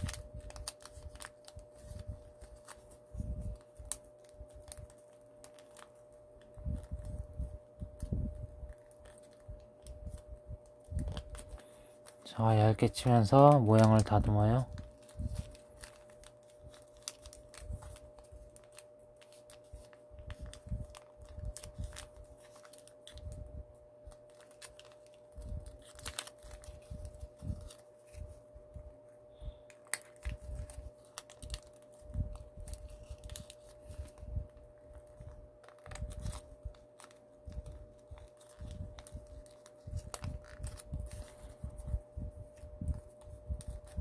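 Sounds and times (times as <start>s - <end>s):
faint steady hum: 0.0s - 44.0s
paper crinkling while folded: 0.0s - 44.0s.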